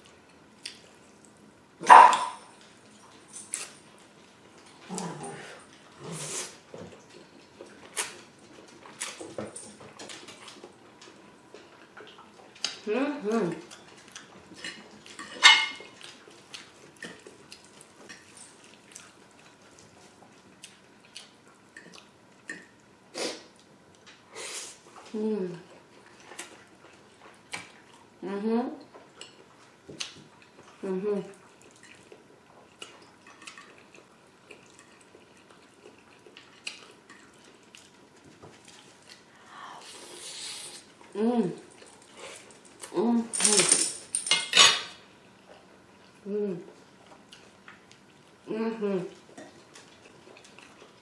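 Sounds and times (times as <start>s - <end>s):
wet chewing and mouth sounds: 0.0s - 28.2s, 28.8s - 43.0s, 44.9s - 51.0s.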